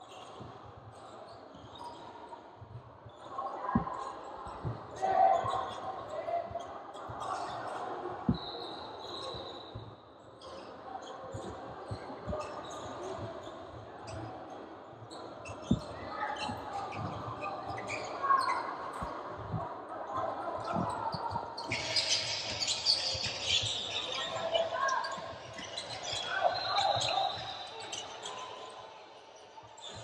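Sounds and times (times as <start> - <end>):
sneakers squeaking: 2.7 - 14.5, 15.1 - 19.6, 20.6 - 28.5.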